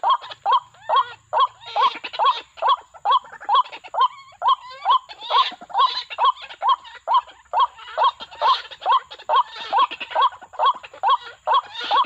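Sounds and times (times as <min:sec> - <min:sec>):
waterhen calling: 0:00.0 - 0:12.0.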